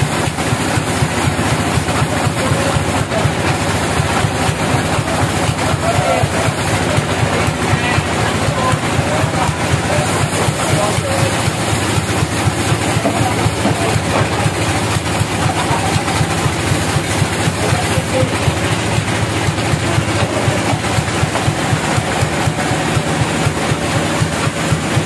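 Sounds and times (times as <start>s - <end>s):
band sawmill idling: 0.0s - 25.0s.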